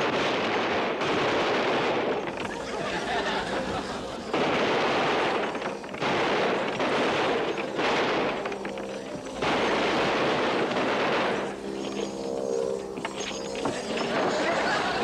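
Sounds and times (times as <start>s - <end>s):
machine gun firing bursts: 0.0s - 12.1s.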